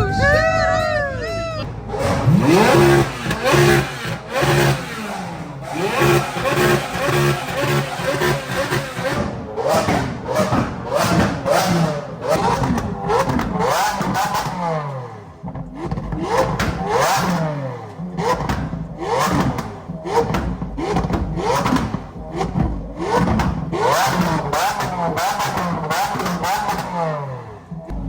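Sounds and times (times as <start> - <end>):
car engines revving: 0.0 - 28.0
exhaust pops: 1.7 - 14.7, 15.4 - 28.0.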